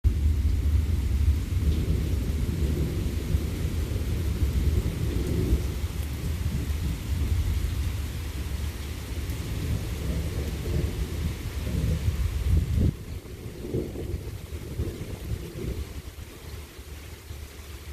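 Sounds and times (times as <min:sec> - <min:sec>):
rolling thunder: 0:00.0 - 0:16.5
rain hissing: 0:00.0 - 0:17.9.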